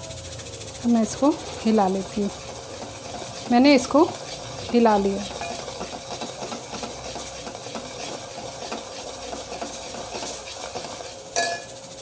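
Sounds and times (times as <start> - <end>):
masala sizzling in oil: 0.0 - 12.0
metal spoon scraping pot: 1.1 - 11.7.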